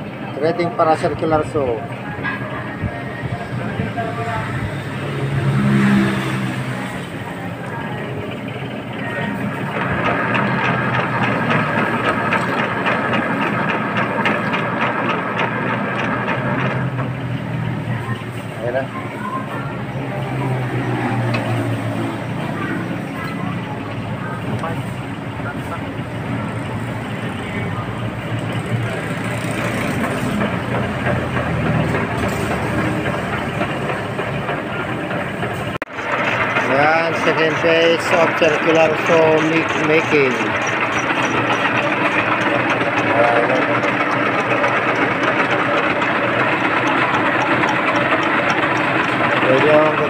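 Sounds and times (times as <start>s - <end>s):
metal lathe running: 0.0s - 50.0s
regular machine ticking: 4.2s - 18.8s, 19.8s - 50.0s.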